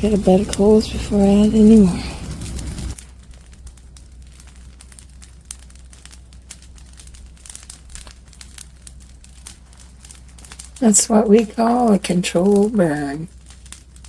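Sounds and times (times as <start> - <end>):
brush fire crackling: 0.0 - 14.0.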